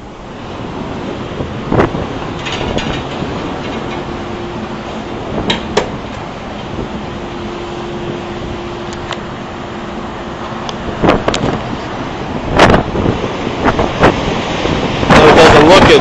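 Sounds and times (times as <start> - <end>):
heavy seas: 0.0 - 16.0
strong wind: 0.0 - 16.0
wind buffeting microphone: 0.0 - 16.0.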